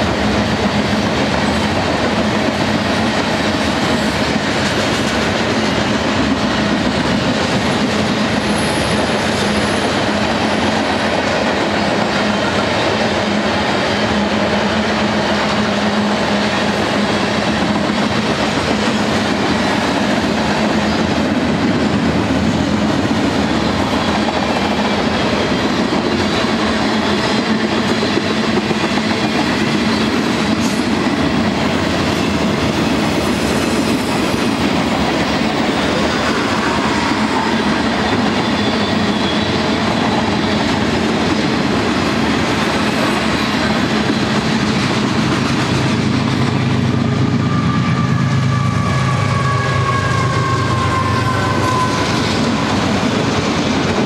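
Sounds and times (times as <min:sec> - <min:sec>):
freight train wheels rattling: 0:00.0 - 0:54.0.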